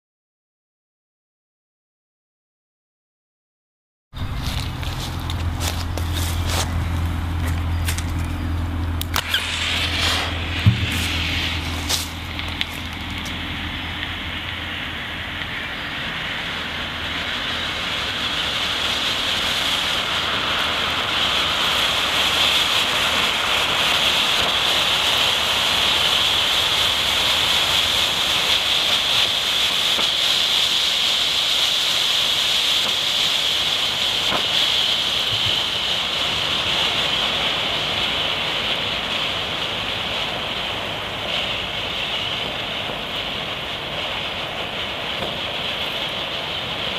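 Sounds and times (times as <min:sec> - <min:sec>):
smoke grenade hissing: 0:04.2 - 0:46.9.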